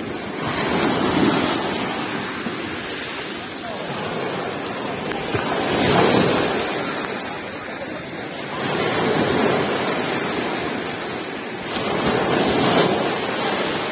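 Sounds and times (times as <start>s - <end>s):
sea surf washing onto beach: 0.0s - 13.9s.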